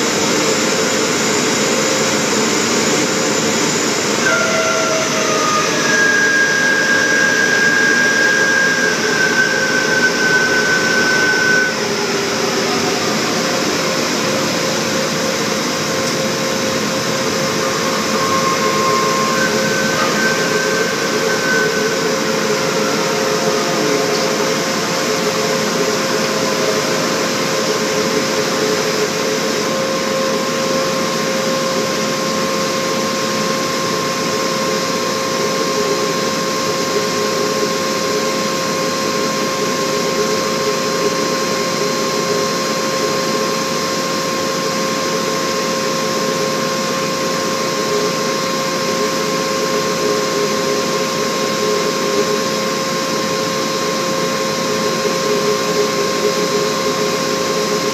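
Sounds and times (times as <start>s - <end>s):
fan whirring with a whine: 0.0s - 57.9s.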